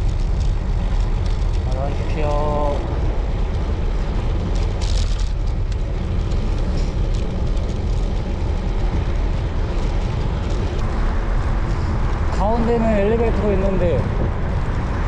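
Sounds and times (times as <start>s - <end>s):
bicycle road noise: 0.0s - 15.0s
wind rumble: 0.0s - 15.0s.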